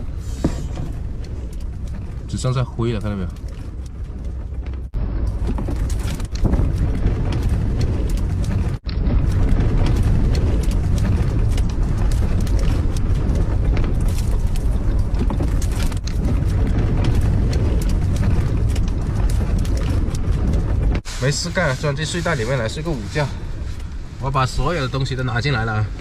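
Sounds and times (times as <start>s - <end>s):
gale wind buffeting: 0.0s - 26.0s.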